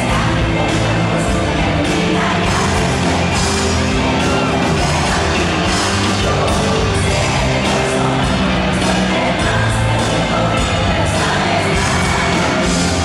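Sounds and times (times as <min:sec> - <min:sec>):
live band playing pop: 0:00.0 - 0:13.0.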